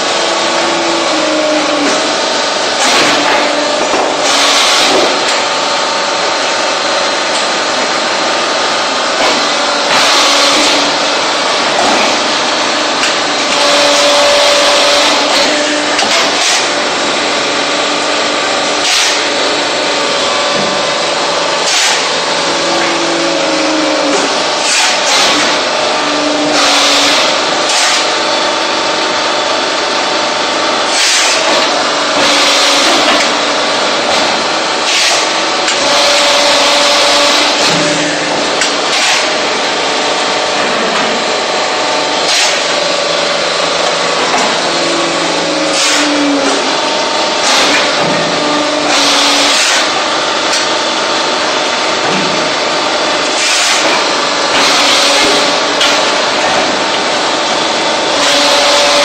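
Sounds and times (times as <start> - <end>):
hydraulic press machine noise: 0.0 - 59.0.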